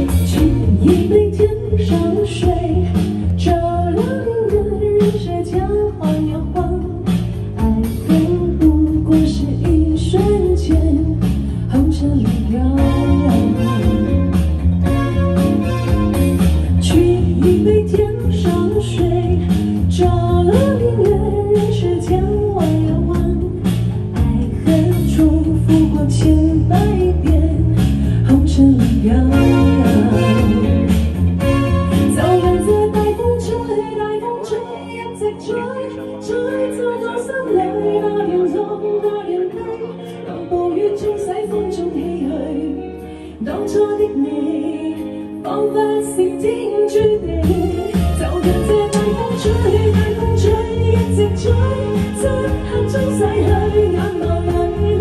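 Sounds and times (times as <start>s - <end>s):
live band playing pop song: 0.0s - 55.0s.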